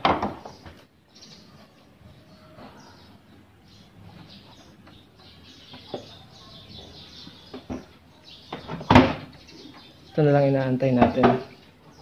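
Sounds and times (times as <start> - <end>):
faint bird chirping: 0.2 - 12.0.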